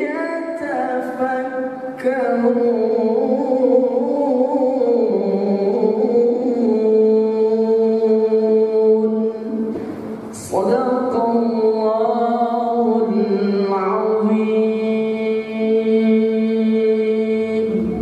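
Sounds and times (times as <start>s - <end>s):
man chanting: 0.0s - 18.0s.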